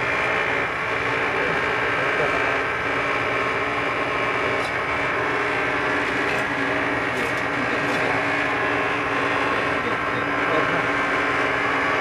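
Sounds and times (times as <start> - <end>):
machinery droning: 0.0 - 12.0.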